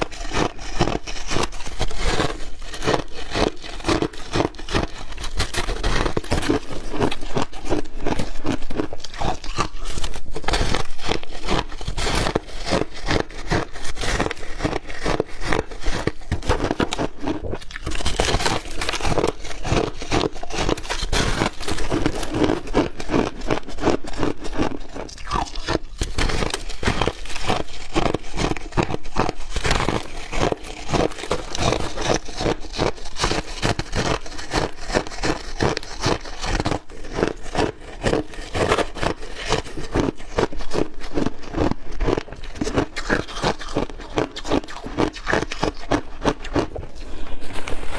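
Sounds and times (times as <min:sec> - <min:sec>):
ice being chewed: 0:00.0 - 0:47.9.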